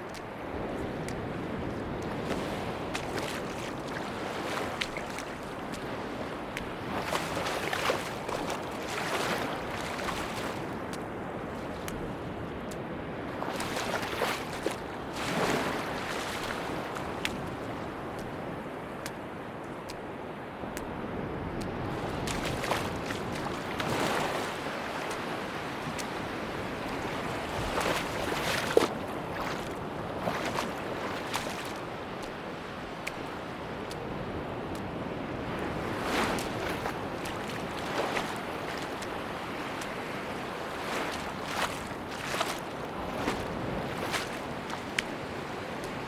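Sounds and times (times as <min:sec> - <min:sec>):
sea waves washing onto beach: 0:00.0 - 0:46.0.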